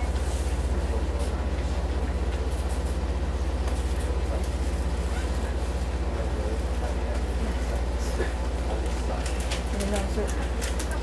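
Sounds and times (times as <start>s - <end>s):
electric train equipment humming: 0.0s - 11.0s.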